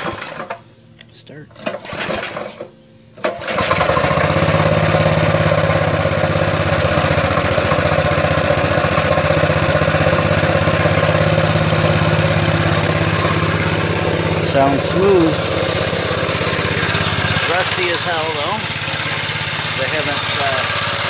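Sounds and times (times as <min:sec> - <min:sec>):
mini bike engine starting and idling: 0:00.0 - 0:00.7, 0:01.5 - 0:21.0.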